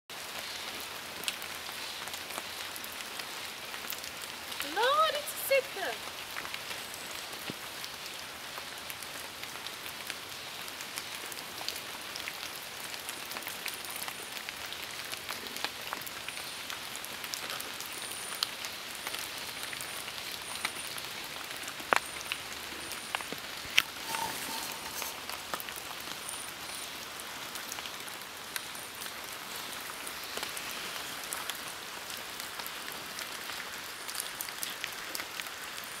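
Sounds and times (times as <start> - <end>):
rain on foliage: 0.1 - 36.0.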